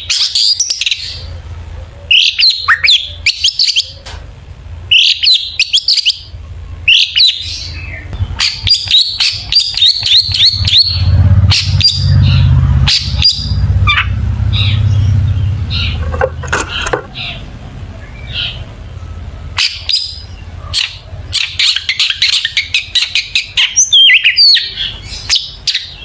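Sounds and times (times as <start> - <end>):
low steady hum: 0.0 - 23.6.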